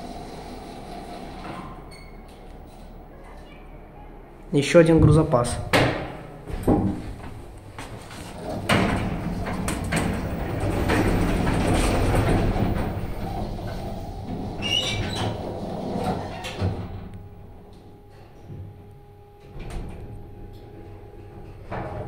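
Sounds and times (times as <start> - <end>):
elevator doors clunking shut: 0.0 - 3.0, 4.9 - 18.8, 19.4 - 22.0
elevator running in shaft: 0.0 - 22.0.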